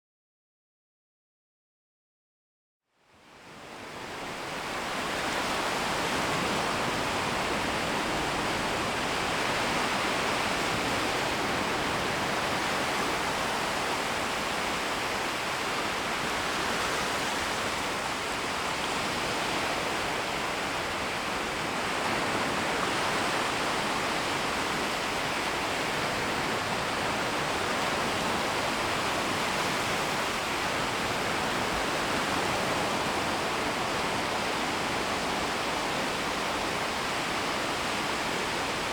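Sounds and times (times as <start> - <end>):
small waves washing on shore: 3.3 - 38.9.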